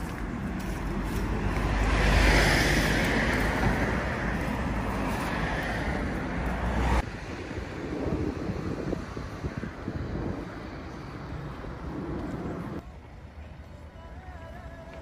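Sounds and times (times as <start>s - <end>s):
traffic rumble: 0.0s - 15.0s
vehicle passing close by: 0.3s - 12.8s.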